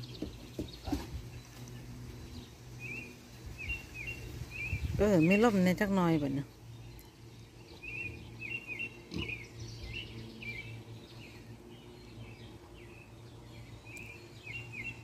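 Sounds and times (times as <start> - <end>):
low background hum: 0.0 - 15.0
songbird chirping: 0.0 - 15.0.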